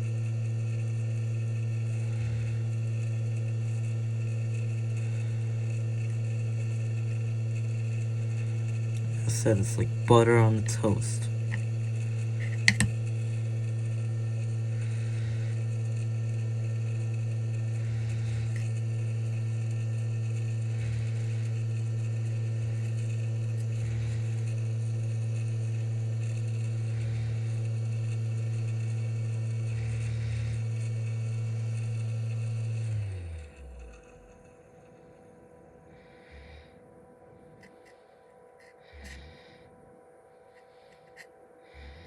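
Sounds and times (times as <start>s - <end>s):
electric fan motor humming: 0.0s - 42.0s.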